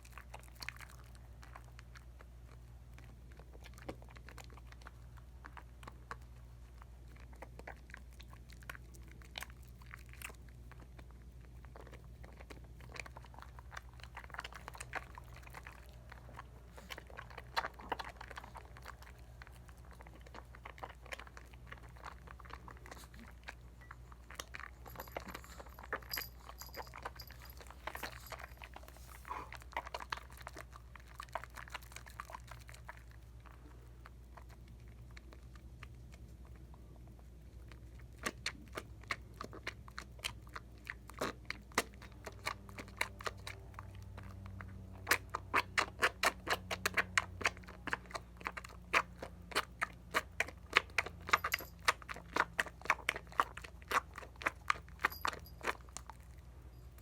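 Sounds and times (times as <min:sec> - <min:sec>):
soap lather squishing: 0:00.0 - 0:56.4.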